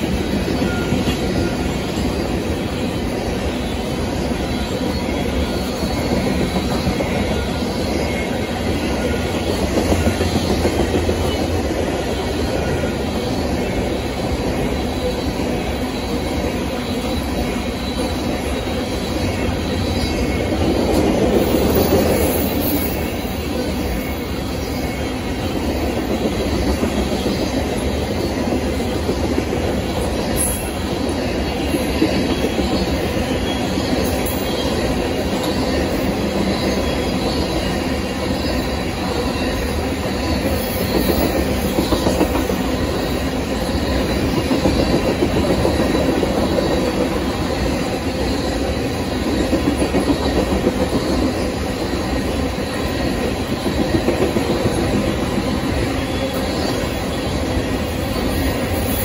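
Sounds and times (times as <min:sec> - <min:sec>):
steel wheels rumbling on rail: 0:00.0 - 0:59.0
train wheel clacks: 0:00.0 - 0:59.0.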